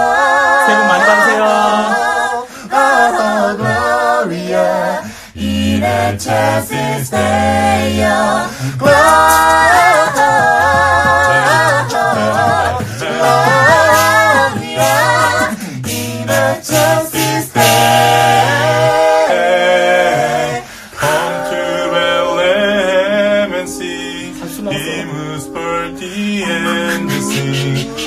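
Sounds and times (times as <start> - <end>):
voices singing a cappella: 0.0 - 28.0.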